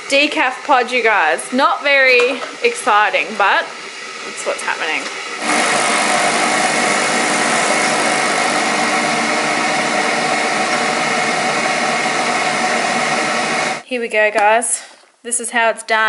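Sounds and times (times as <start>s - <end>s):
coffee machine pump buzzing: 0.0s - 13.8s.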